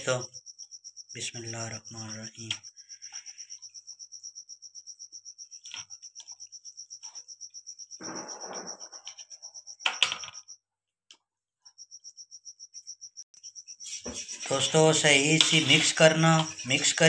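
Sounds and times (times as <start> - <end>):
cricket chirping: 0.0 - 10.7, 11.6 - 17.0.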